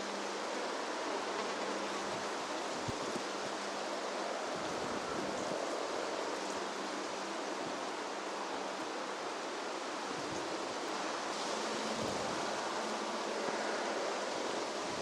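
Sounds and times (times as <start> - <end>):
wind rustling through barley: 0.0 - 15.0.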